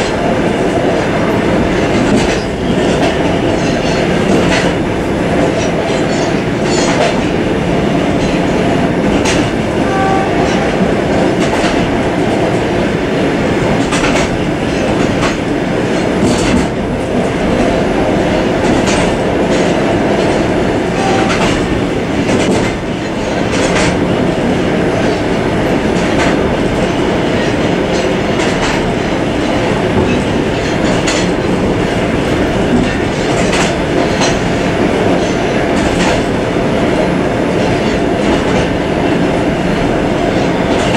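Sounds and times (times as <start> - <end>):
click-clack of rail joints: 0.0 - 40.9
train wheels rumbling: 0.0 - 40.9.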